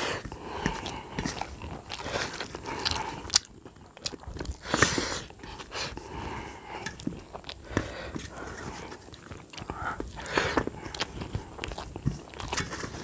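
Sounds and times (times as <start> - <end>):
chewing and mouth noises: 0.0 - 13.0
fingers mixing rice on plate: 0.0 - 13.0.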